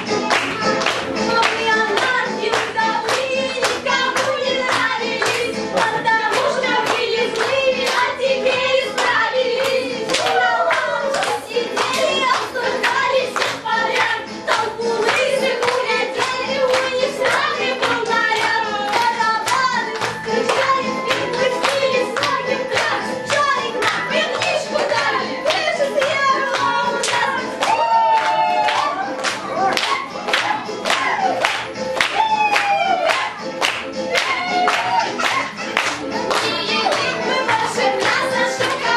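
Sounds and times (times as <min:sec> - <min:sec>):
group singing: 0:00.0 - 0:31.4, 0:34.0 - 0:38.9
music: 0:00.0 - 0:38.9
rhythmic hand-clapping: 0:00.0 - 0:38.9.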